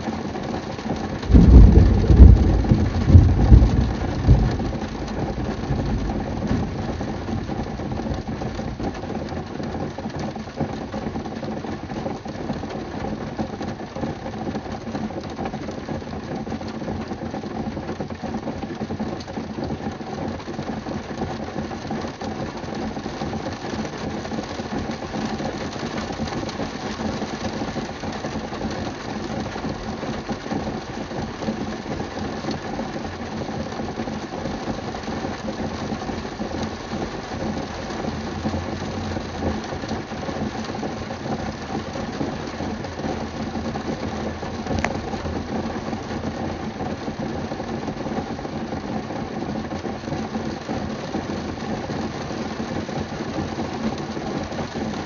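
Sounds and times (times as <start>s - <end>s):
heavy rain on a car roof: 0.0s - 55.0s.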